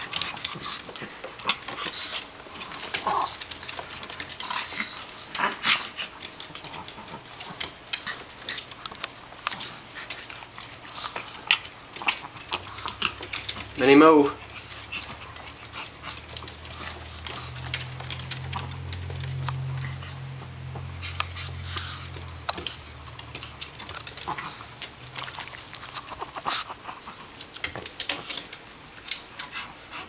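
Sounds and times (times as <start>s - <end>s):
dog claws clicking on hardwood: 0.0s - 30.0s.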